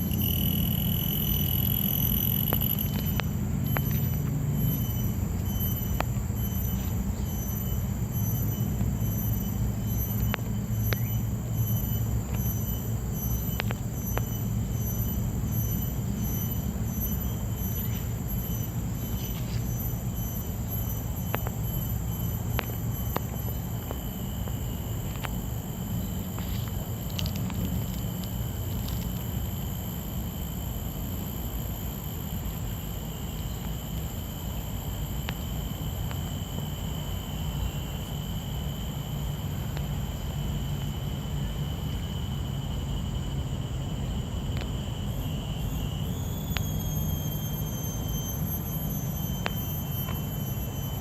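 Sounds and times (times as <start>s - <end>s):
high-pitched whine: 0.0s - 51.0s.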